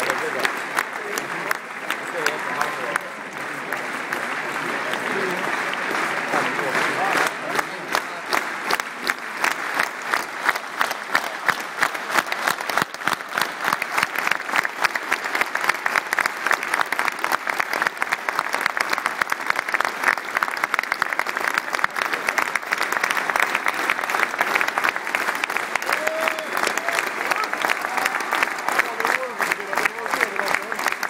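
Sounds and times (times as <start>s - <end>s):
close hand claps: 0.0s - 31.0s
stadium crowd applauding: 0.0s - 31.0s.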